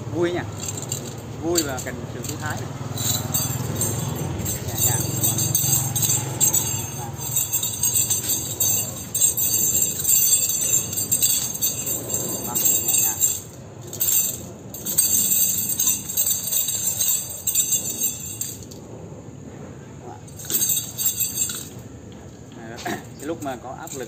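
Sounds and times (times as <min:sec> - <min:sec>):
nunchaku chain jingling: 0:00.3 - 0:18.9, 0:20.2 - 0:22.0, 0:22.8 - 0:24.0.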